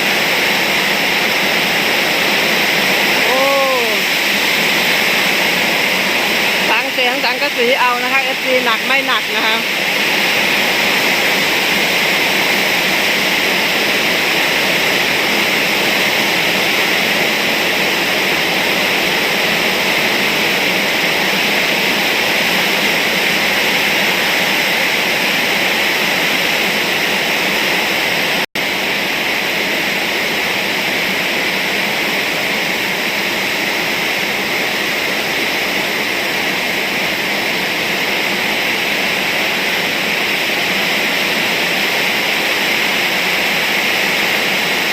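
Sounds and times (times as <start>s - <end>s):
heavy rain on a metal roof: 0.0s - 44.9s.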